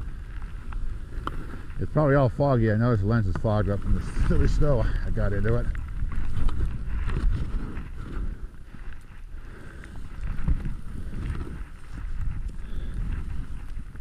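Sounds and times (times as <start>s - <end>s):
skis rushing through snow: 0.0s - 14.0s
wind buffeting microphone: 0.0s - 14.0s.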